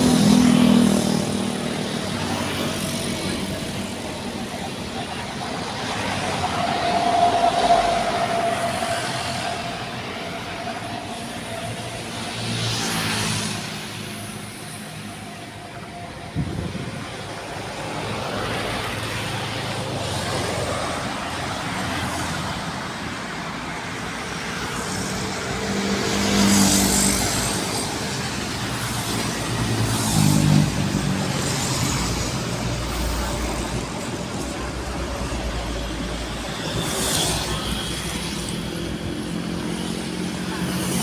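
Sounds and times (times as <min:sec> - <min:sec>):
truck engines and road noise: 0:00.0 - 0:41.0.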